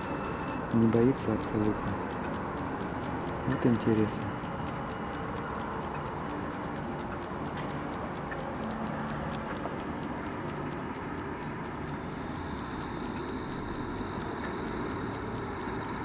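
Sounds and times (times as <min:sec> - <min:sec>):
high-pitched ticking: 0:00.0 - 0:16.0.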